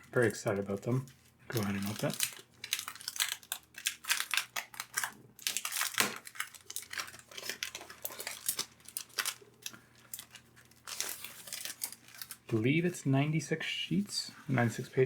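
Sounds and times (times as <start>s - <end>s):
packaging torn and crinkled: 0.0s - 12.6s.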